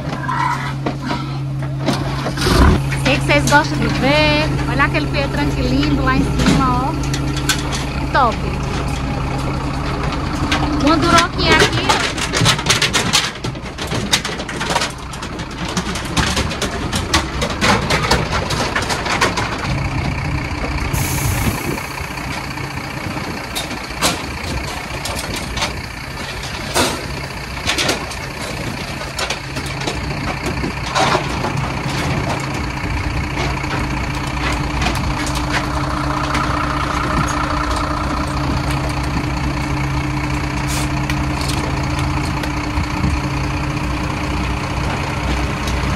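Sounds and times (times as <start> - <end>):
knocks and clatters: 0.0 - 20.9, 22.1 - 45.9
diesel engine idling: 0.0 - 45.9.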